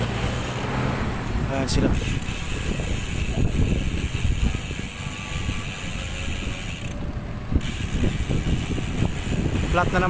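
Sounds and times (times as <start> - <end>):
bicycle freewheel clicking: 0.0 - 0.7, 1.9 - 10.0
wind rumble on microphone: 1.0 - 10.0.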